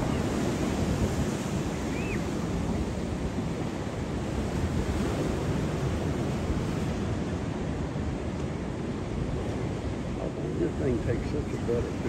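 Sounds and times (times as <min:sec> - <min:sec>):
surf wash: 0:00.0 - 0:12.0
wind noise on microphone: 0:00.0 - 0:12.0.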